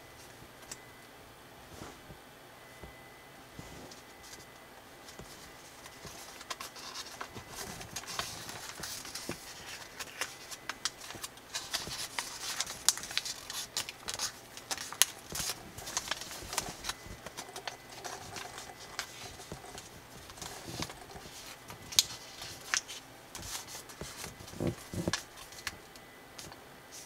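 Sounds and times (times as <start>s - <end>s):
paper folding crackle: 3.9s - 27.0s.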